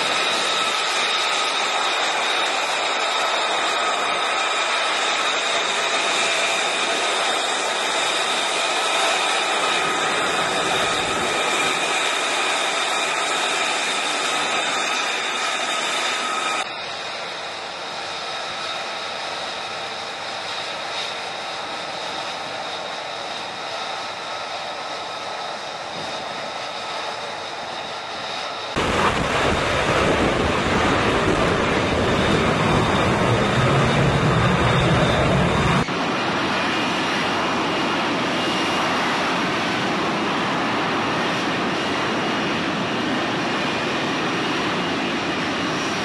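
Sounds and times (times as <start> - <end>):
jet engine whining: 0.0 - 46.0.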